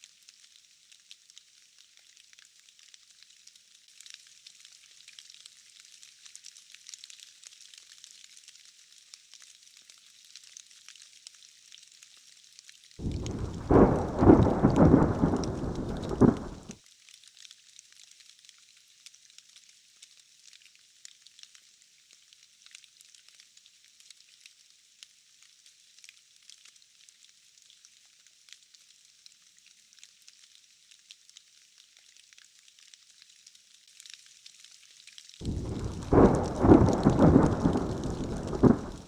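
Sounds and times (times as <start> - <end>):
faint rain patter: 0.0 - 39.0.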